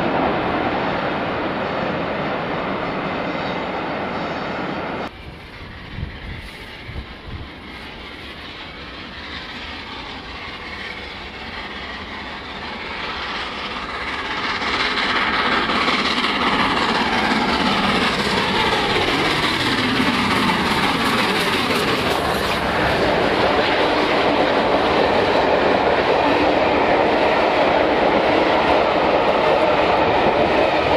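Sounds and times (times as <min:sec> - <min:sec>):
coaches clickety-clack over rails: 0:00.0 - 0:30.9
steam locomotive passing: 0:00.0 - 0:30.9.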